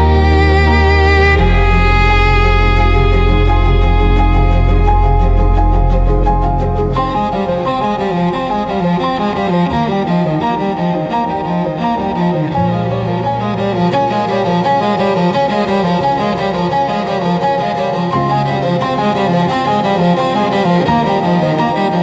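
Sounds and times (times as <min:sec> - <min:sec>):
slow cello music: 0:00.0 - 0:22.0.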